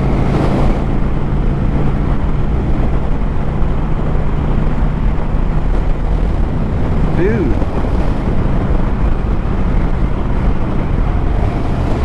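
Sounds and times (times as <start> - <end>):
wind noise on microphone: 0.0 - 12.0.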